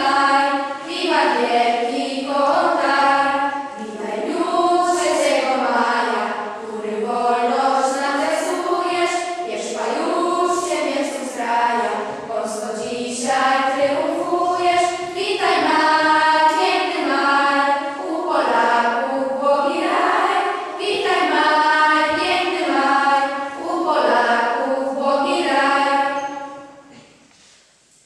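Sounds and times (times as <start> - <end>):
girls singing together: 0.0 - 27.2.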